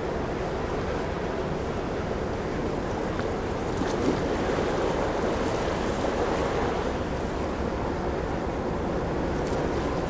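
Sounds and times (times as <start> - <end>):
water washing along hull: 0.0 - 10.0.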